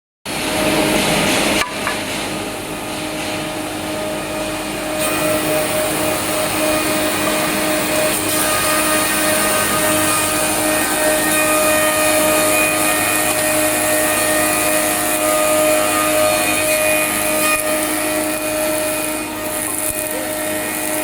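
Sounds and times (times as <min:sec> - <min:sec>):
sanding machine humming: 0:00.3 - 0:21.0.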